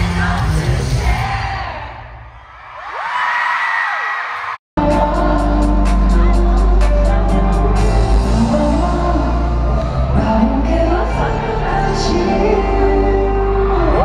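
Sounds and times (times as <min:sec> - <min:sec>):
pop music with singing: 0:00.0 - 0:02.2, 0:04.8 - 0:14.0.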